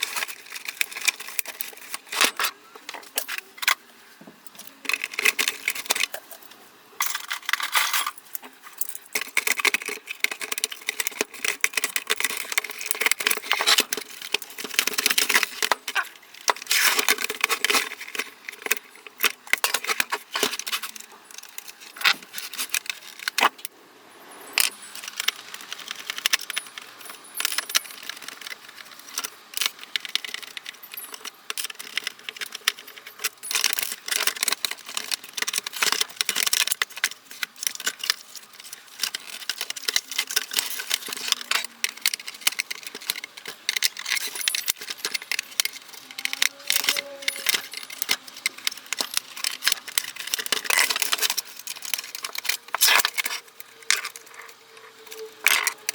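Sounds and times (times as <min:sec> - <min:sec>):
small hard parts and tools clattering: 0:00.0 - 0:55.9.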